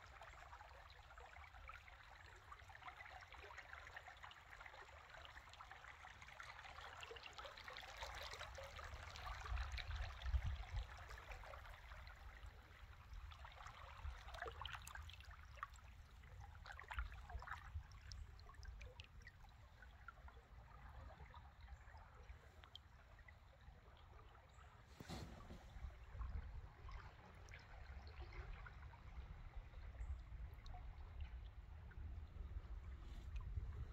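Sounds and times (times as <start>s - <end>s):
creek water trickling: 0.0s - 33.9s
small water drips: 0.0s - 33.9s.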